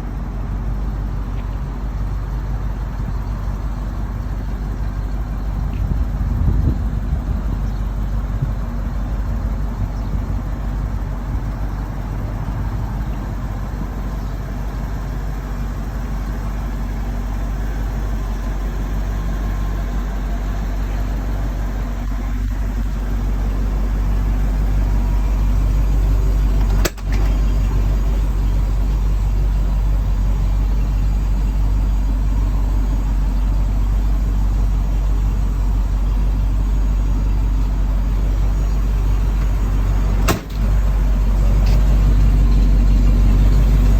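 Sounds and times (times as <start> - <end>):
dump truck engine running: 0.0 - 43.9.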